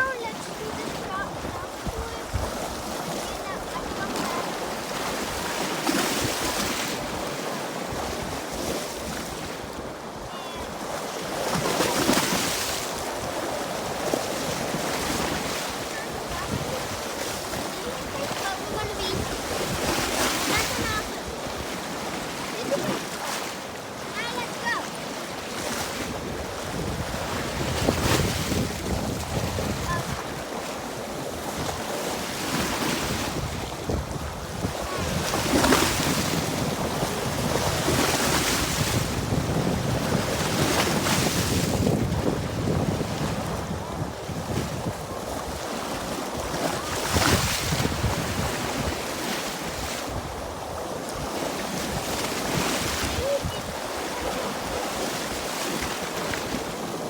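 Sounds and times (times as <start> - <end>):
strong wind buffeting microphone: 0.0 - 22.8, 25.6 - 57.0
small waves lapping: 0.0 - 57.0.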